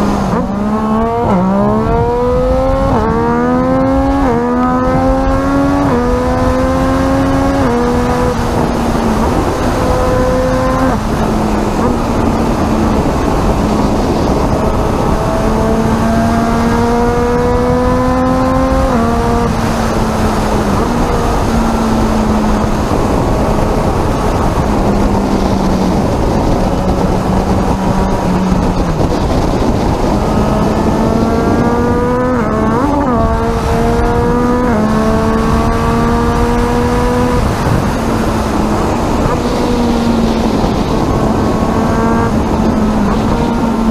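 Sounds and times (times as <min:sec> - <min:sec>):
motorcycle engine revving: 0:00.0 - 0:43.9
wind and road noise: 0:00.0 - 0:43.9.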